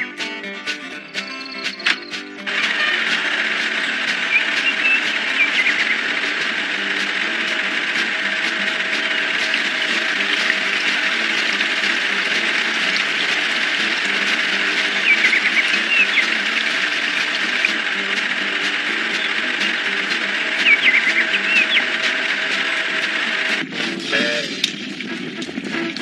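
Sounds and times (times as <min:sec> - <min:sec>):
cartoon truck engine rumble: 0:02.4 - 0:26.0.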